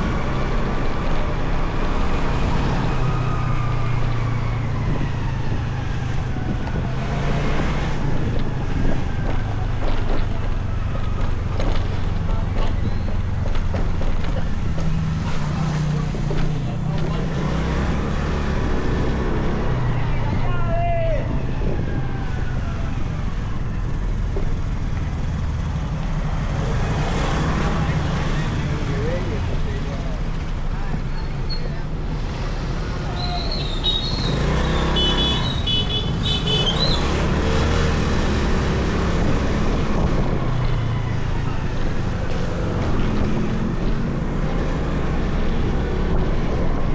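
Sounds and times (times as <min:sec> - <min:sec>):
motorcycle engine drone: 0:00.0 - 0:46.9
road and wind noise: 0:00.0 - 0:46.9
traffic rumble: 0:00.0 - 0:46.9.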